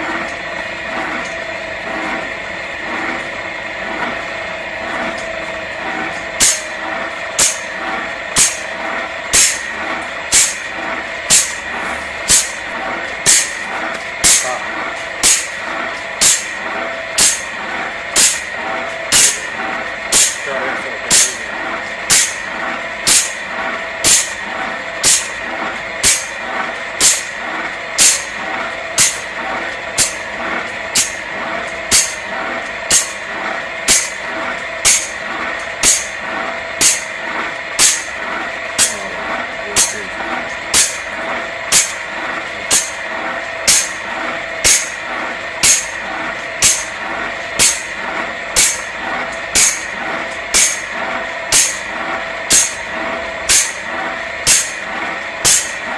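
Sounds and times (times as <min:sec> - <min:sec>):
industrial machinery humming: 0:00.0 - 0:55.9.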